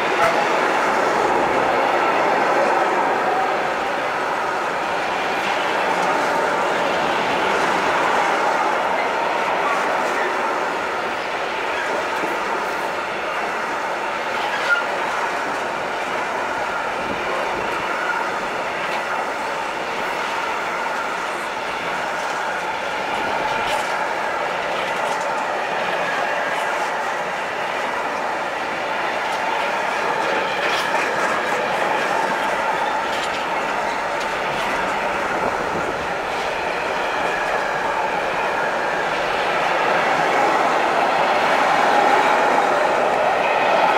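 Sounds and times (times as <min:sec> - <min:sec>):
freight train wheels rolling: 0:00.0 - 0:43.9.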